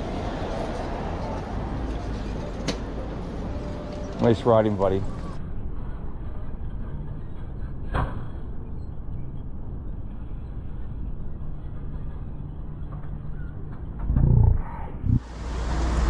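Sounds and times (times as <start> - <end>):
wind and road noise rumble: 0.0 - 16.0.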